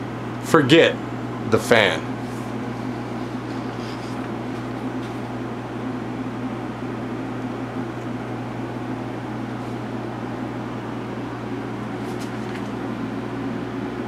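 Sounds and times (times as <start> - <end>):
fans running: 0.0 - 14.0
low electrical drone: 0.0 - 14.0.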